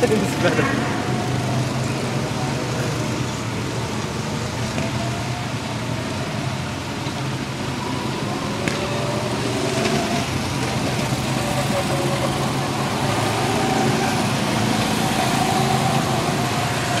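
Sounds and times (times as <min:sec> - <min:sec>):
go-kart engines droning: 0:00.0 - 0:17.0.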